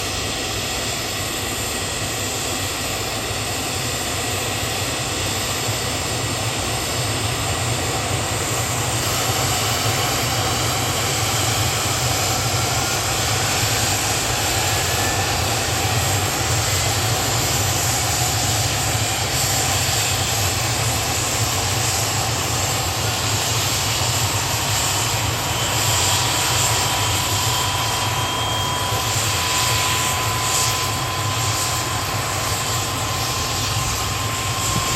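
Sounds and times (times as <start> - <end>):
helicopter turbine engines starting: 0.0 - 34.9.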